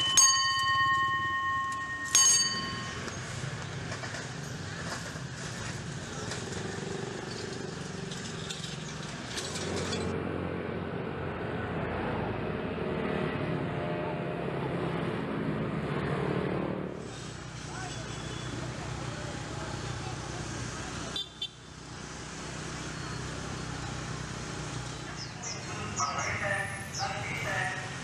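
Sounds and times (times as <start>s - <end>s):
motorbikes and cars passing: 0.0s - 28.0s.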